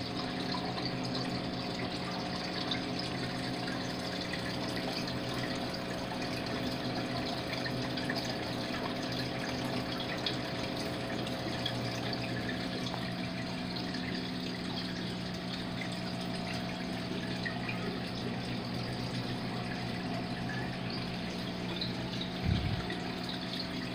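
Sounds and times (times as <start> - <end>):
air bubbles and moving water: 0.0 - 23.9
pump electrical hum: 0.0 - 23.9.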